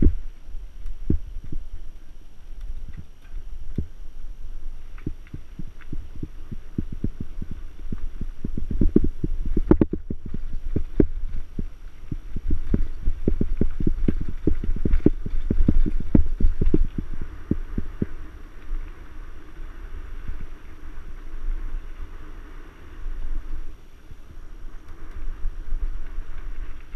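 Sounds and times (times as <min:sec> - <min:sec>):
bike clattering over rough trail: 0:00.0 - 0:26.9
low rumble: 0:00.0 - 0:26.9.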